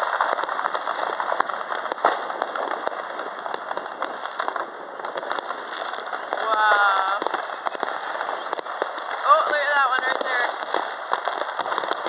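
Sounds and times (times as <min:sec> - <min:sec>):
distant fireworks popping: 0:00.0 - 0:12.0
steady crackling haze: 0:00.0 - 0:12.0.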